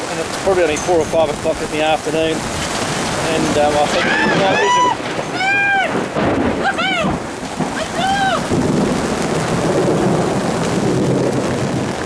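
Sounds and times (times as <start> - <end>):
heavy rain pouring: 0.0 - 12.0
low rumble of thunder: 0.4 - 12.0.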